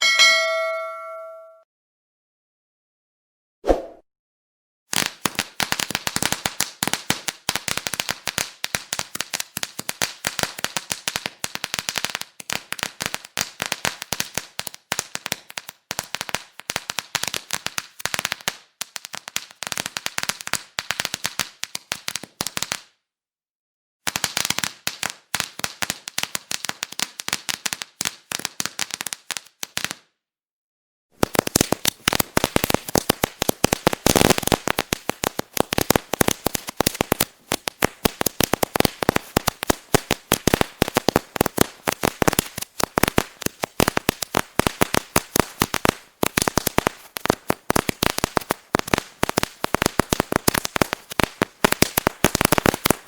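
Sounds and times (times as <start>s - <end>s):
firecrackers crackling: 4.9s - 22.9s, 24.1s - 30.0s, 31.2s - 53.0s.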